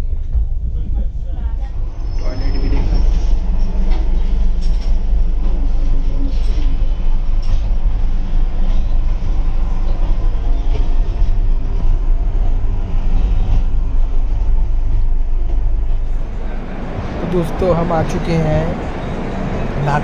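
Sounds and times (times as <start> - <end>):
train running on rails: 0.0 - 20.0.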